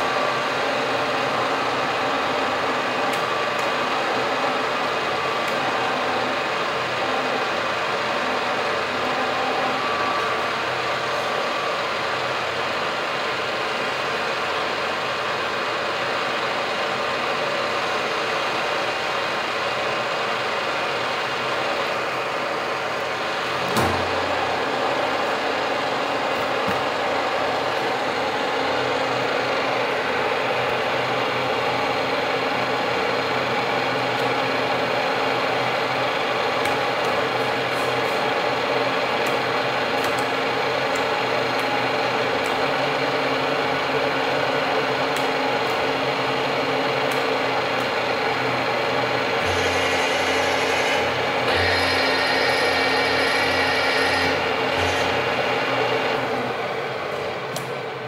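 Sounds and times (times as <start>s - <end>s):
milling machine motor hum: 0.0s - 58.0s
second drive whine and hum: 0.0s - 58.0s.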